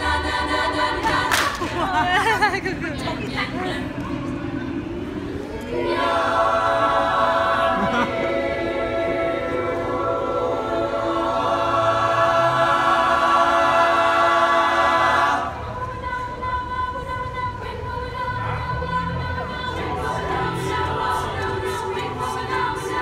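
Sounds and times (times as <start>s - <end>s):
choir singing a cappella: 0.0s - 23.0s.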